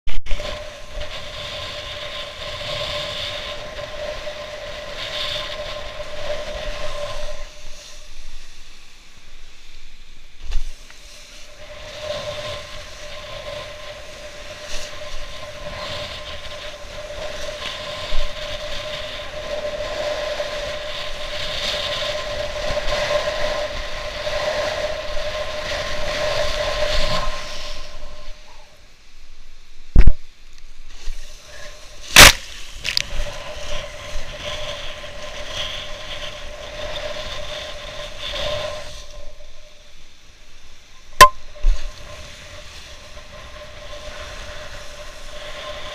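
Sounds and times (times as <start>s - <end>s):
wind rushing over camera: 0.1s - 45.9s.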